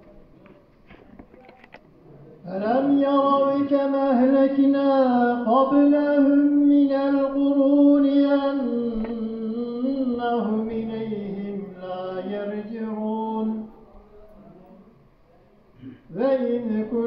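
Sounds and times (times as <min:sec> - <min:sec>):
man chanting melodically: 0:02.1 - 0:15.0, 0:15.8 - 0:17.0.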